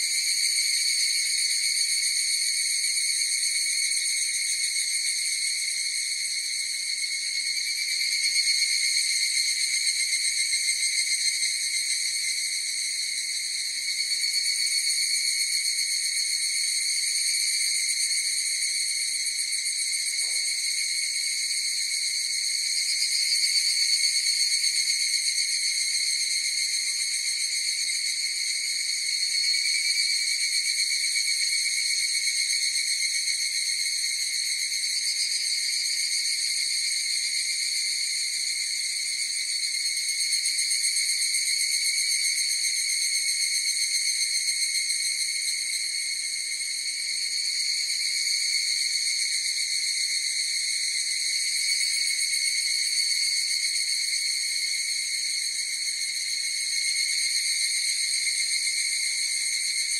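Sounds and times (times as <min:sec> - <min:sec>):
cicadas shrill ringing: 0:00.0 - 0:59.9.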